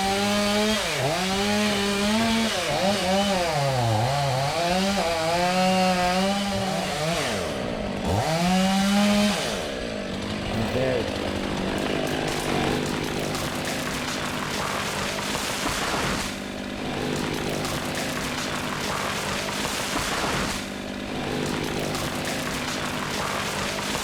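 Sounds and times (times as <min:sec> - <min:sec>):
chainsaw engine at high revs: 0:00.0 - 0:24.0.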